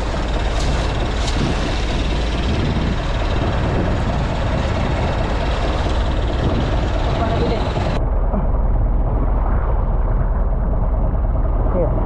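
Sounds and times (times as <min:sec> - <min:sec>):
boat engine rumbling: 0:00.0 - 0:12.0
wind on microphone: 0:00.0 - 0:12.0.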